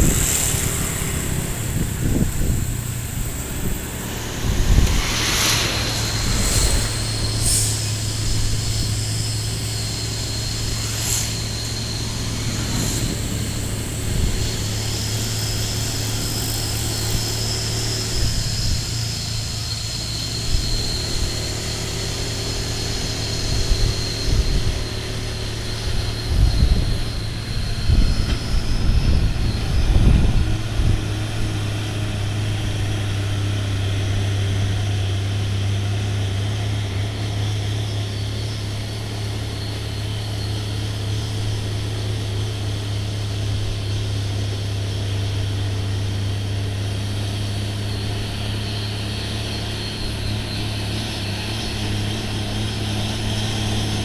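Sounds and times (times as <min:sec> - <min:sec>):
diesel truck engine droning: 0:00.0 - 0:54.0
high turbo whistle: 0:00.0 - 0:54.0
low rumbles: 0:00.0 - 0:54.0.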